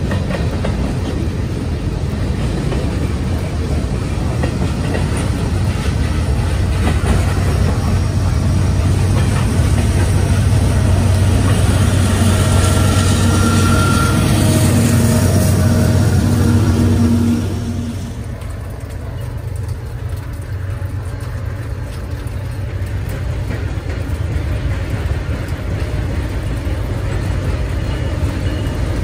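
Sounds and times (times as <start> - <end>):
train wheels clattering over rails: 0.0 - 17.2, 18.3 - 29.0.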